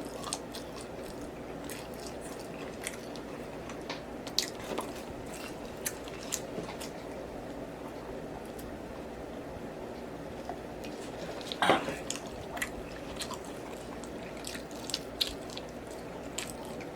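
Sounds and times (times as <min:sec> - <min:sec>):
person chewing food: 0:00.0 - 0:09.2, 0:10.2 - 0:16.9
low background hum: 0:00.0 - 0:16.9.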